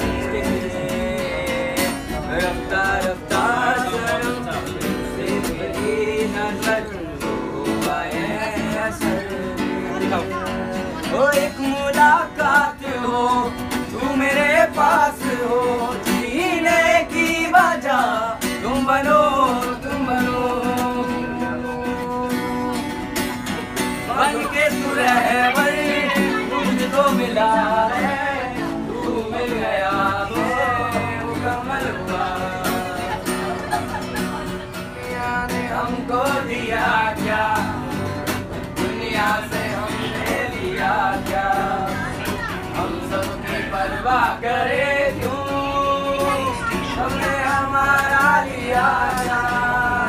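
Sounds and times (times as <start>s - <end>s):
man singing: 0.0s - 50.0s
strummed acoustic guitar: 0.0s - 50.0s.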